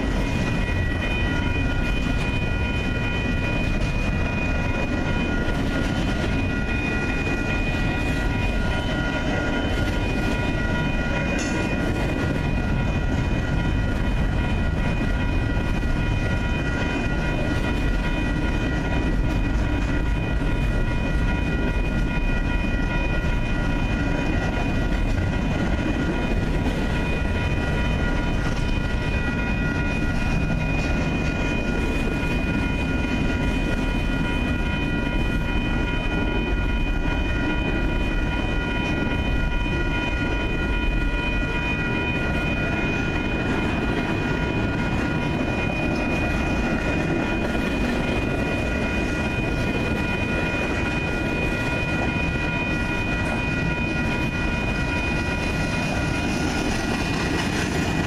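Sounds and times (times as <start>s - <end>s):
crossing warning bell ringing: 0.0s - 58.0s
freight train wheels clattering: 0.0s - 58.0s.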